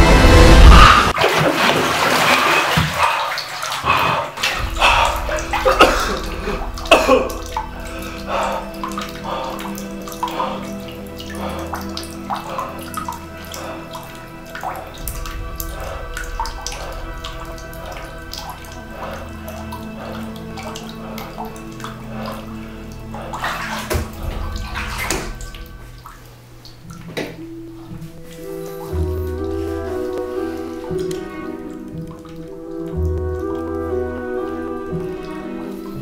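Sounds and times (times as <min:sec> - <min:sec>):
low musical drone: 0:00.0 - 0:01.2, 0:04.4 - 0:36.0
bathwater splashing and sloshing: 0:00.0 - 0:36.0
water dripping: 0:00.1 - 0:36.0.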